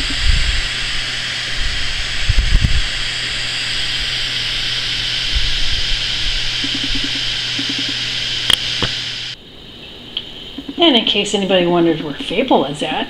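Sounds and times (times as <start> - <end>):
low hum: 0.0 - 12.4
steady hiss: 0.0 - 13.0.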